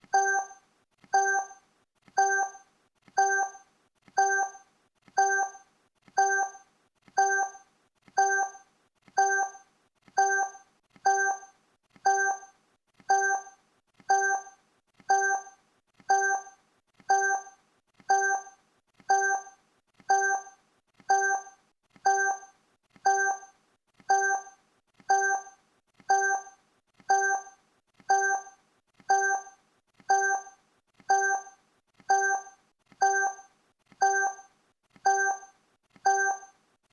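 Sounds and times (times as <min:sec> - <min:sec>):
electronic timer blips: 0:00.0 - 0:36.6.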